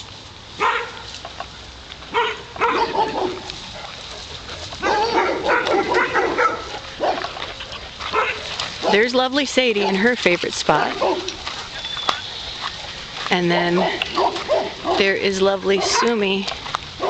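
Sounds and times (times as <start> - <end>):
dogs barking and yipping: 0.6 - 1.2, 2.0 - 17.0.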